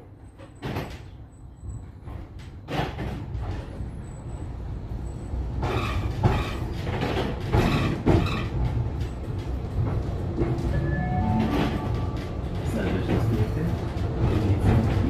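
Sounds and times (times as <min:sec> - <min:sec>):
tram interior rumble: 0:00.0 - 0:15.0.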